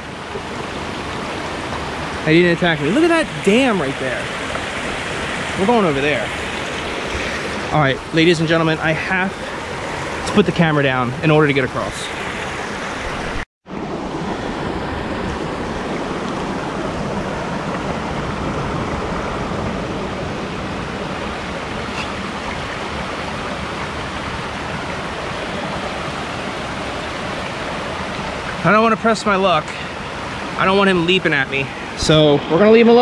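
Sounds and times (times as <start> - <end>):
creek rushing over boulders: 0.0 - 33.0.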